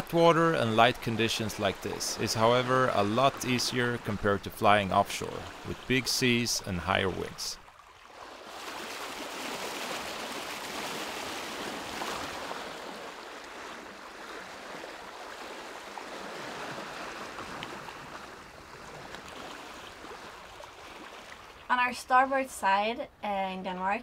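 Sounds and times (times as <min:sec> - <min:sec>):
water rushing along hull: 0:00.0 - 0:22.8.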